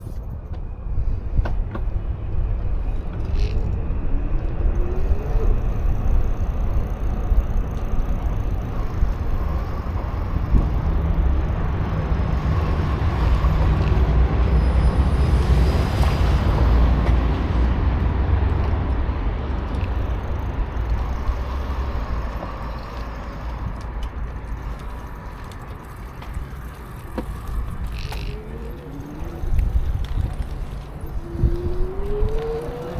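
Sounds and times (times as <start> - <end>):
road noise: 0.0 - 32.9
wind rumbling on microphone: 0.0 - 32.9
vehicle passing: 4.7 - 32.9.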